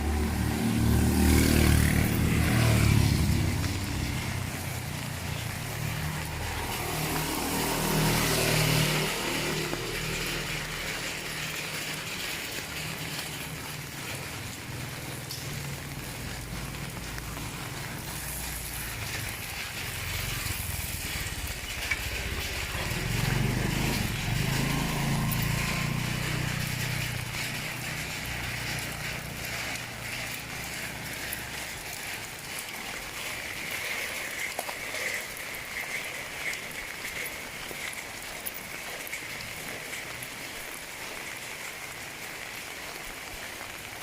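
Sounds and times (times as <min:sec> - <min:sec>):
vehicle passing: 0:00.0 - 0:38.3
rain falling: 0:00.0 - 0:44.0.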